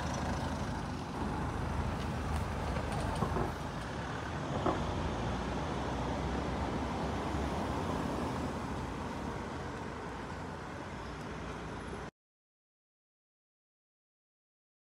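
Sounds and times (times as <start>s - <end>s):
low rumble of street traffic: 0.0s - 12.1s.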